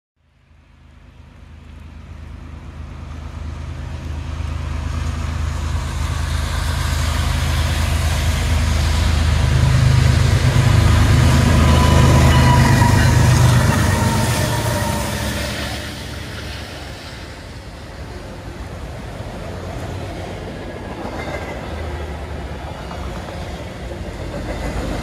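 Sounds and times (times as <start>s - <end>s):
diesel locomotive engine rumble: 0.2s - 25.0s.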